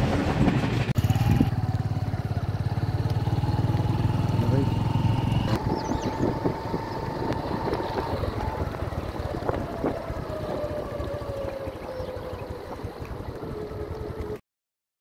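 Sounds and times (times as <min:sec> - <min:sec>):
wind rumble on microphone: 0:00.0 - 0:01.9, 0:03.7 - 0:14.4
motorbike engine running: 0:00.5 - 0:14.4.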